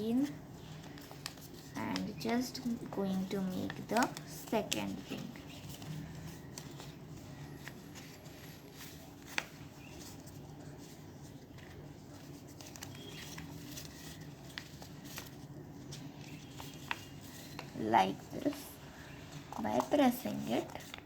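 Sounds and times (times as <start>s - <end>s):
paper folding and creasing: 0.2s - 21.0s.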